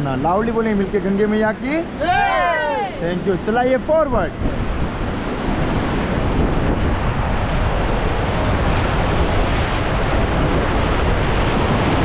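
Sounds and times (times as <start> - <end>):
river rapid rushing: 1.0 - 12.0
wind buffeting microphone: 1.8 - 12.0.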